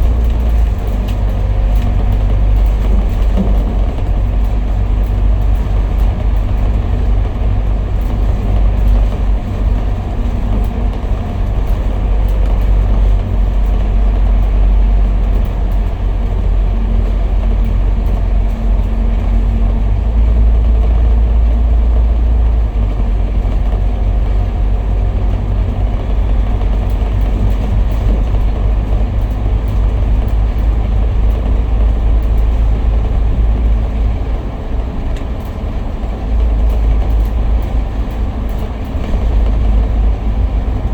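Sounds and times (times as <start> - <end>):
bus engine rumble: 0.0 - 40.9
faint rattles and ticks: 0.0 - 40.9
road and wind noise: 0.0 - 40.9.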